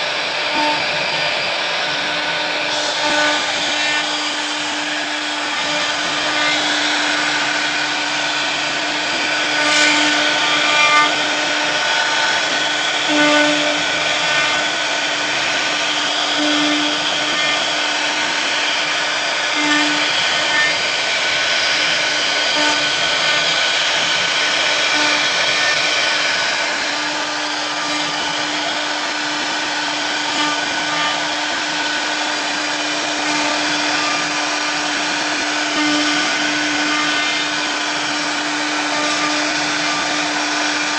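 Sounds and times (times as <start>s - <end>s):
router bit cutting hiss: 0.0s - 40.9s
router spindle whine: 0.0s - 40.9s.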